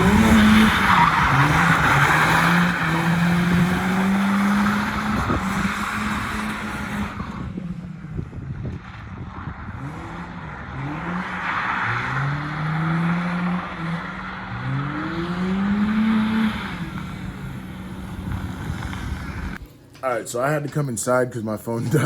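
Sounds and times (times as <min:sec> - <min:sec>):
car engine accelerating: 0:00.0 - 0:19.7.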